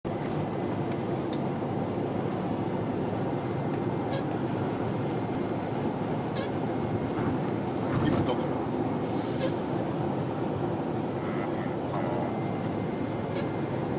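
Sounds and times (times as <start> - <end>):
car running noise: 0.0 - 13.9.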